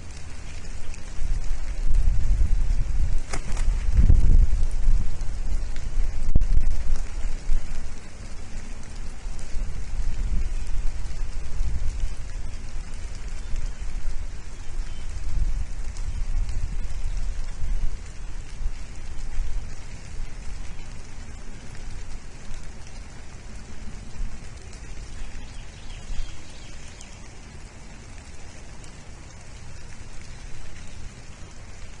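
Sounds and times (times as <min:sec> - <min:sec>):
rain falling: 0:00.0 - 0:32.0
wind rumble on microphone: 0:00.0 - 0:32.0.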